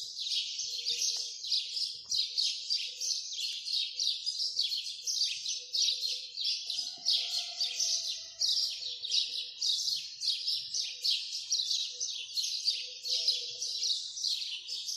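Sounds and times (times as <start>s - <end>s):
flock of small birds chirping: 0.0s - 14.9s.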